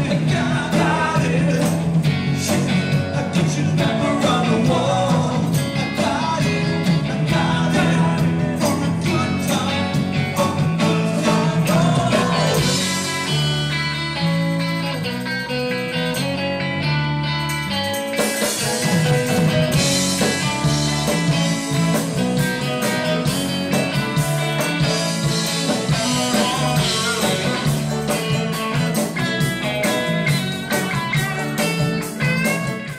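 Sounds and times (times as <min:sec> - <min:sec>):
blues-rock band playing: 0:00.0 - 0:32.9
overdriven electric guitar: 0:00.0 - 0:32.9.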